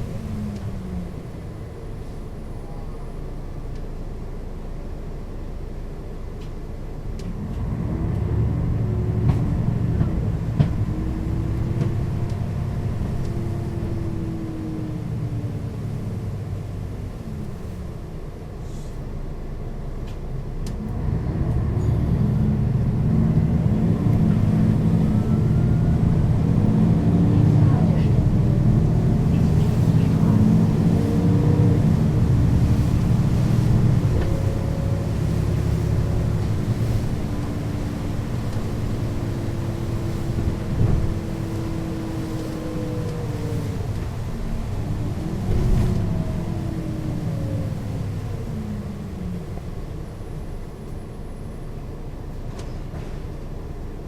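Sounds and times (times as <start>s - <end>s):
bus accelerating: 0.0s - 54.0s.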